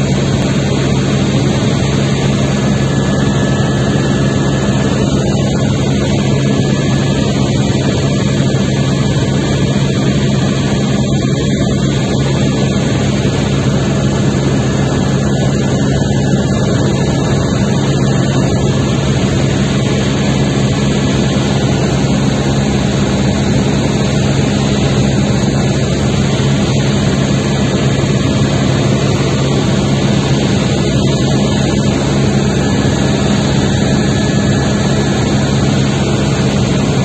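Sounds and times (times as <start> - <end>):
helicopter rotor drone: 0.0 - 37.0.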